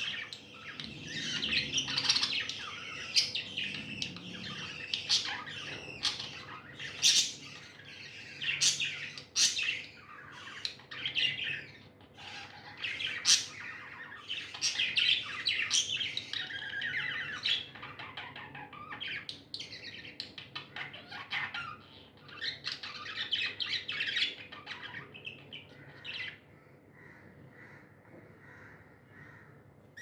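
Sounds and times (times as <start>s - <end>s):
budgerigars chirping and squawking: 0.0s - 26.5s.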